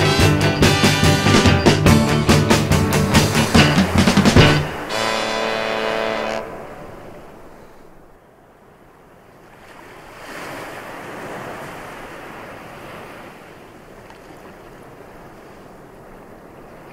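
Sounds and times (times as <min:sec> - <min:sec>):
ocean waves breaking on shore: 0:00.0 - 0:16.9.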